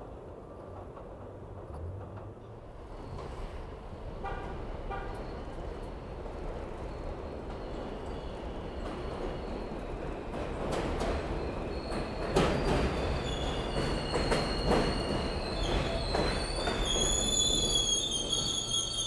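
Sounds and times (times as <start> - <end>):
train wheels rumbling and clacking: 0.0 - 19.0.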